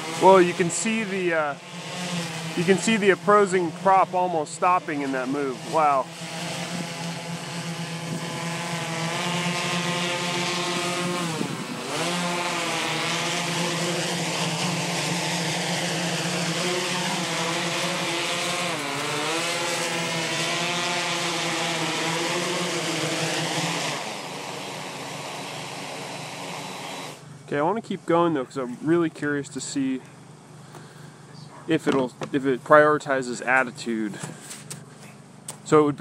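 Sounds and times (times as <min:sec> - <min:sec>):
drone propellers humming: 0:00.0 - 0:36.0.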